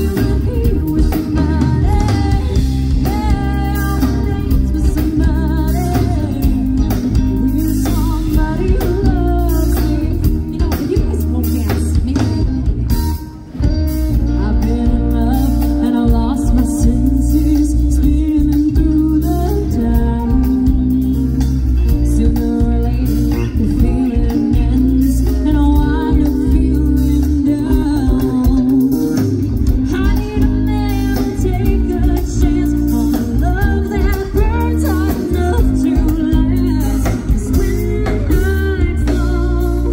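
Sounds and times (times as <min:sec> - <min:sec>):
person singing: 0:00.0 - 0:13.2, 0:14.1 - 0:39.9
bass guitar: 0:00.0 - 0:39.9
drum kit: 0:00.0 - 0:39.9
electric guitar: 0:00.0 - 0:39.9.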